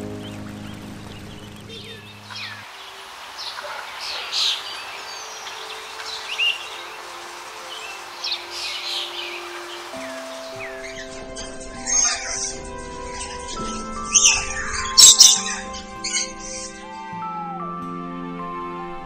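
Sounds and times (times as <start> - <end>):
soft background music: 0.0 - 2.5, 4.7 - 19.0
bird chirping: 0.0 - 18.0.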